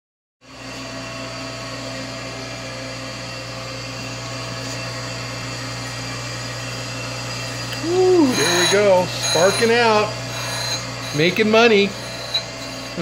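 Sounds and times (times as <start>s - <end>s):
surface grinder humming and whining: 0.5s - 13.0s.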